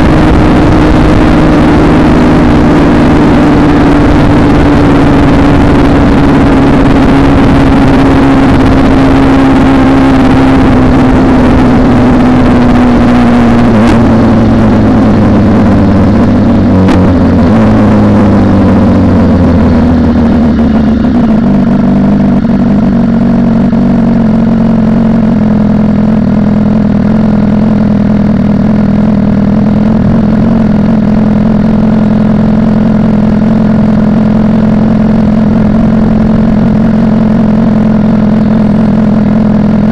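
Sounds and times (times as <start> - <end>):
unmuffled motorcycle engine: 0.0 - 39.9.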